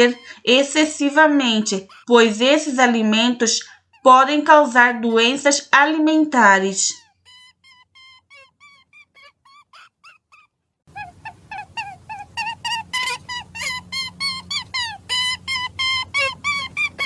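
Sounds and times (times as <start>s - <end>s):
high repeated animal calls: 0.0s - 4.2s, 6.9s - 17.0s.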